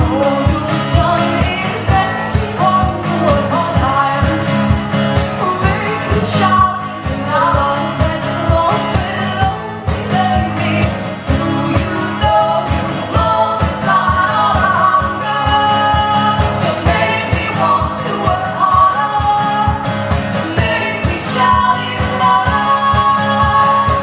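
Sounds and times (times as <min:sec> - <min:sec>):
person singing: 0:00.0 - 0:24.0.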